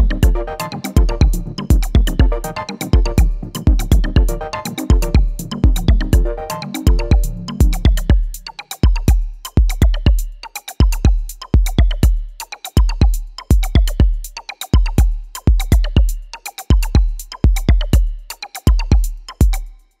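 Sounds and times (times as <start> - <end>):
music with fast heavy drum beat: 0.0 - 20.0.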